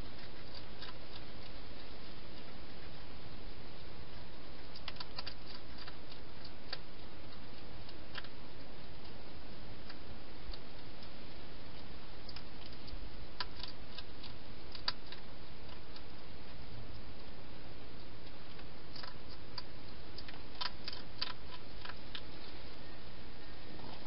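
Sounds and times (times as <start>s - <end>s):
hedgehog eating clicks and crunches: 0.0s - 22.5s
steady hiss: 0.0s - 24.0s.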